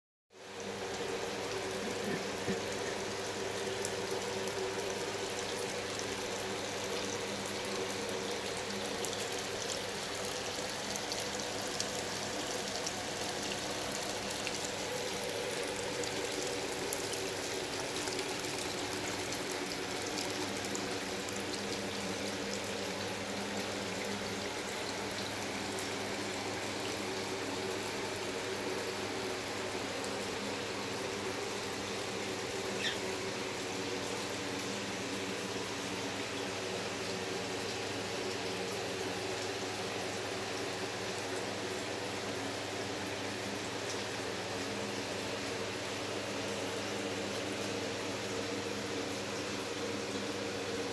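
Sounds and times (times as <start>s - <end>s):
fizzing crackle: 0.5s - 50.9s
water trickling and pouring: 0.6s - 50.9s.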